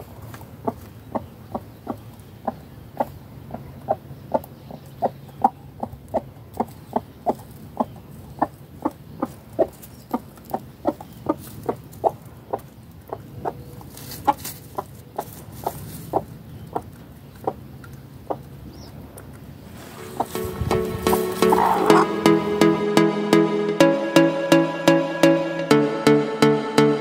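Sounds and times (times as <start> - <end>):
hen clucking: 0.0 - 22.8.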